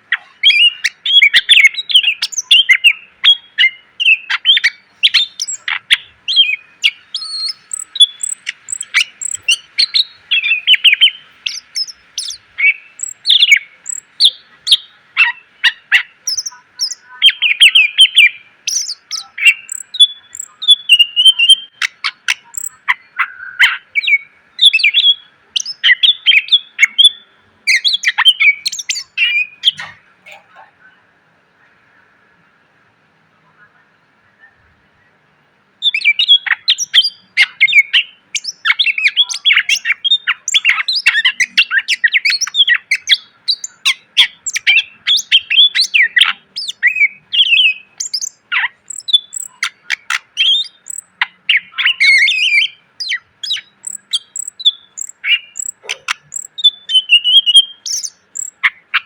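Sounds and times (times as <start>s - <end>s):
songbird singing rapid chirps: 0.0s - 59.0s.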